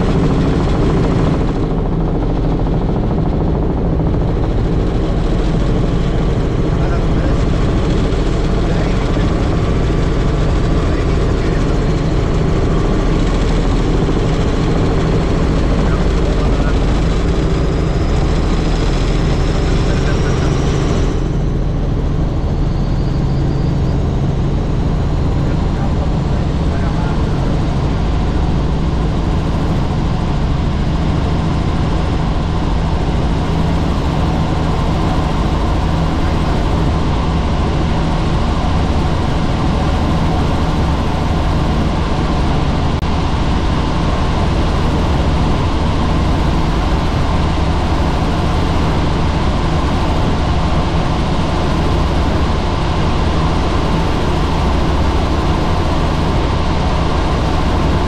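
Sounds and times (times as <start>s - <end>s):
helicopter engine and rotors drone: 0.0s - 58.0s.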